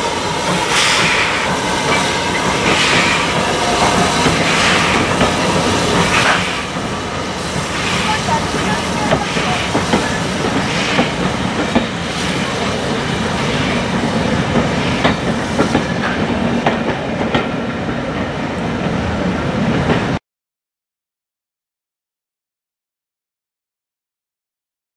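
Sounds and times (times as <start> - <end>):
steam train rumbling past: 0.0 - 20.2.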